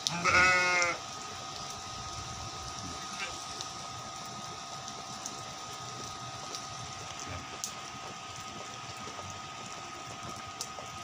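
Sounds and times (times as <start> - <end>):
light rain hissing: 0.0 - 11.0.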